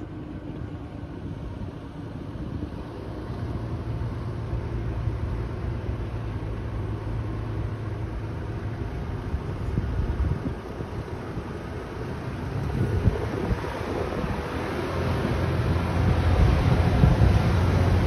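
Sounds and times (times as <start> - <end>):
engine droning under load: 0.0 - 18.0.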